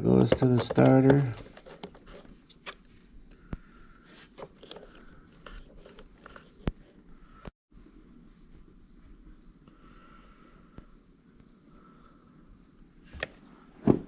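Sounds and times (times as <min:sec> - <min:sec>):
cricket chirping: 0:00.2 - 0:13.7.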